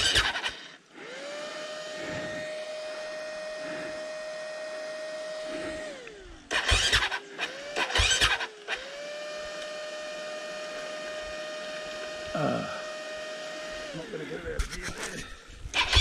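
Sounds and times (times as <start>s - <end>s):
dirt bike engine revving and idling: 0.0s - 16.0s.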